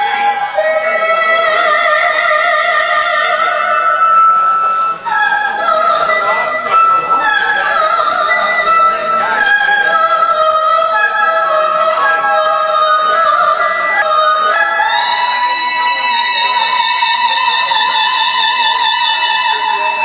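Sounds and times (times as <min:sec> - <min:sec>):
woman singing: 0:00.0 - 0:04.3, 0:05.0 - 0:20.0
instrumental accompaniment: 0:00.0 - 0:20.0.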